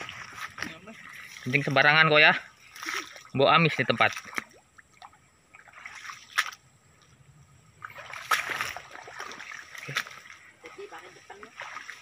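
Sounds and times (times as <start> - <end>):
footsteps through wet undergrowth: 0.0 - 4.5, 5.6 - 12.0.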